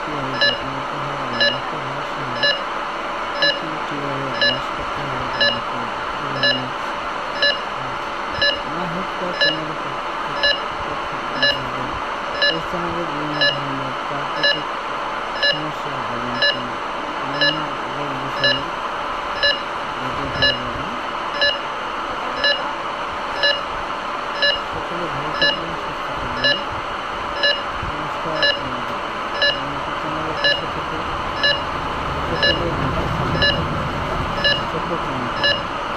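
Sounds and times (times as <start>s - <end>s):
patient monitor beeping: 0.0s - 2.7s, 3.4s - 14.7s, 15.4s - 21.7s, 22.4s - 22.7s, 23.3s - 23.7s, 24.4s - 26.8s, 27.4s - 35.9s.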